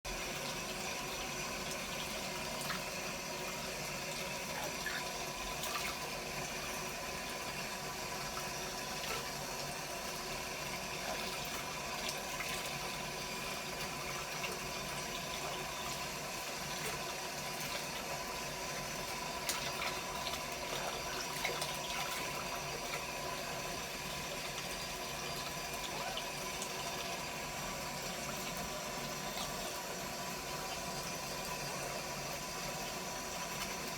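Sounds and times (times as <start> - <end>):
shower water running: 0.1 - 33.9.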